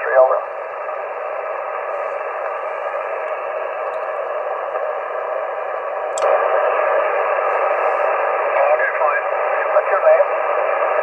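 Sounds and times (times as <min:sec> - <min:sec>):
radio interference noise: 0:00.0 - 0:11.0.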